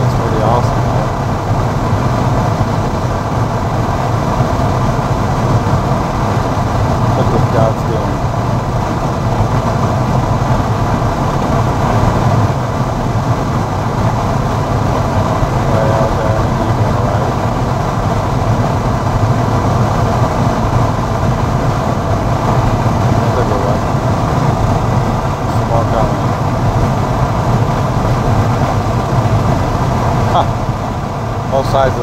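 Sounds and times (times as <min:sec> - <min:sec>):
car engine: 0:00.0 - 0:32.0
car road noise: 0:00.0 - 0:32.0.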